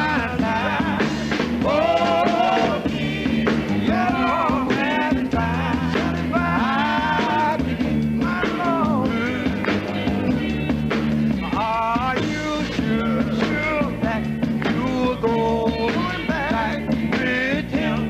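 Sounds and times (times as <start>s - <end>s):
gospel voices singing with band: 0.0s - 18.0s.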